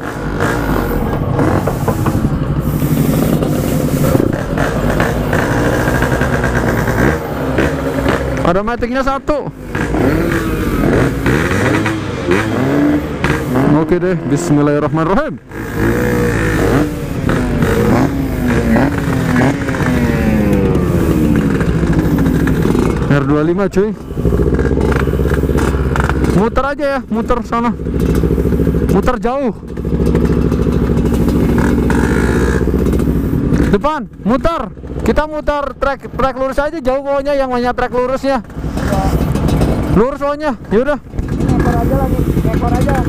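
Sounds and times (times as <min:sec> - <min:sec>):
motorcycle engines running: 0:00.0 - 0:43.0.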